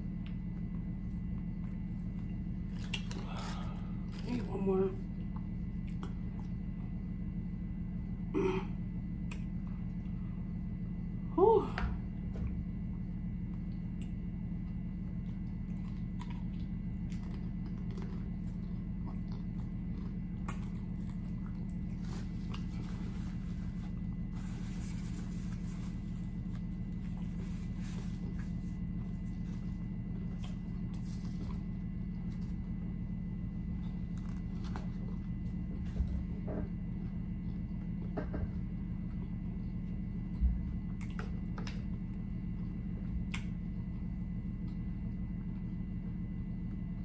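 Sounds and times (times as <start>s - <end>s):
chip crunching and chewing: 0.0s - 7.2s, 13.4s - 46.3s
low hum: 0.0s - 47.0s.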